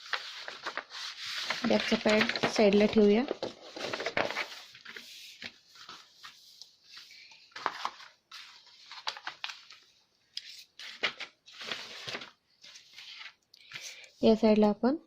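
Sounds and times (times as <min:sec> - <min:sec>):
paper rustling and crinkling: 0:00.0 - 0:13.9.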